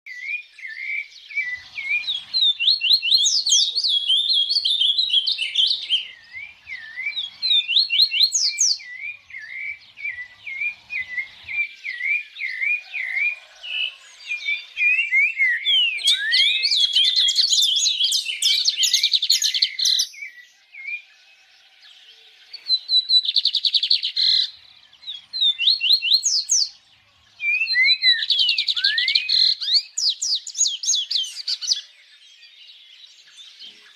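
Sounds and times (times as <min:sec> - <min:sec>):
songbirds singing and chirping: 0:00.1 - 0:33.9.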